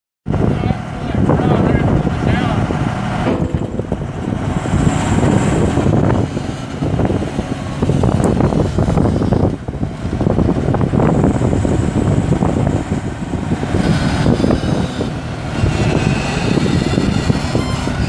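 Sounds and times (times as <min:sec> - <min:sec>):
excavator diesel engine running: 0:00.3 - 0:18.0.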